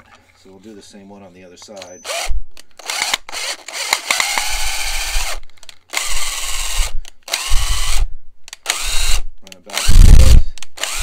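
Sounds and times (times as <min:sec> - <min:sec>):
power drill driving a screw: 0:01.8 - 0:11.0.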